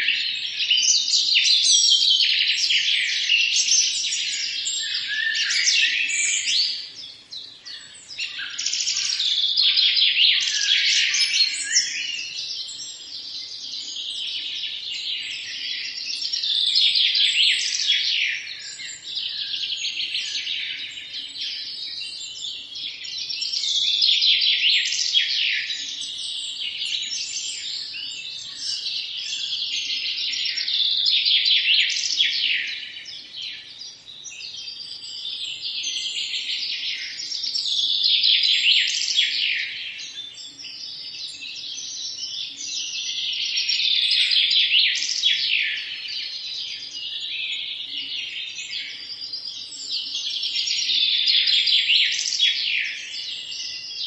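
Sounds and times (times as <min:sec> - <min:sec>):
small songbirds chirping and singing: 0:00.0 - 0:54.0.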